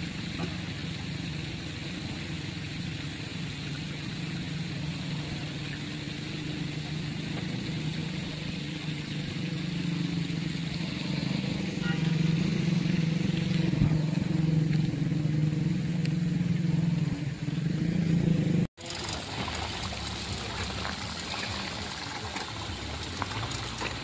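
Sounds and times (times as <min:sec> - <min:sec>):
engine droning: 0:00.0 - 0:24.0
outdoor noise: 0:00.0 - 0:24.0.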